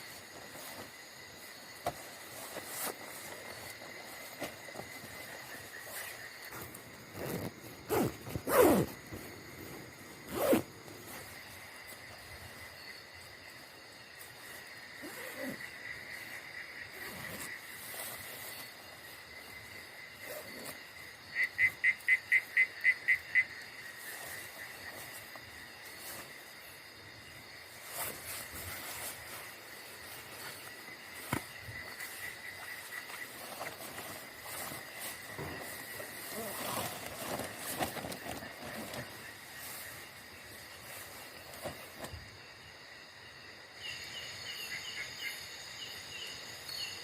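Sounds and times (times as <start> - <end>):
insect trill: 0.0 - 47.0.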